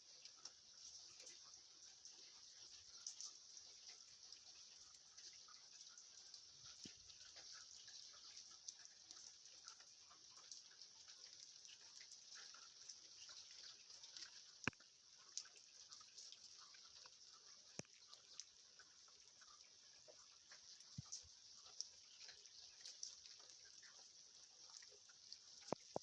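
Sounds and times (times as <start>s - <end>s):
light rain falling: 0.0s - 26.0s
water drips: 0.0s - 26.0s.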